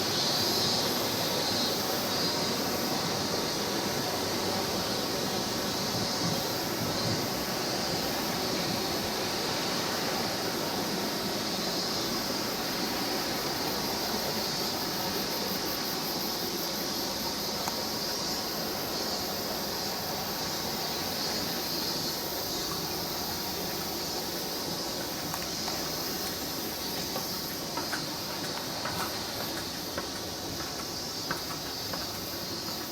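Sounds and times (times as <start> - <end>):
high hiss: 0.0 - 32.9
mountain stream rushing: 0.8 - 32.9.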